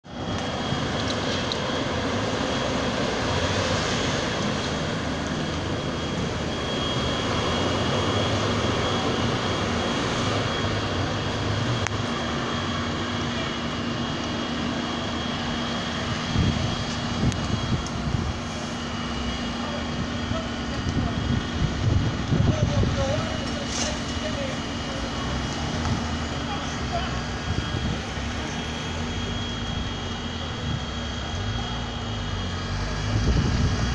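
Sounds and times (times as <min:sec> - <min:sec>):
fire engine engines roaring: 0:00.0 - 0:33.9
faint high whine: 0:00.1 - 0:33.9.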